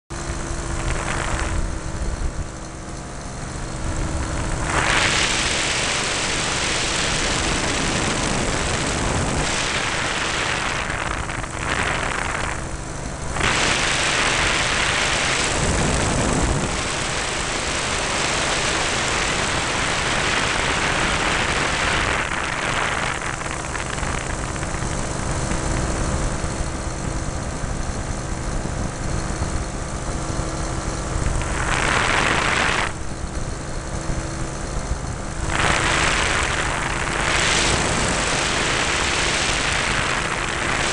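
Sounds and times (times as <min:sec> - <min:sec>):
light aircraft engine and propeller: 0:00.1 - 0:40.9
wind rushing over microphone: 0:00.2 - 0:40.9.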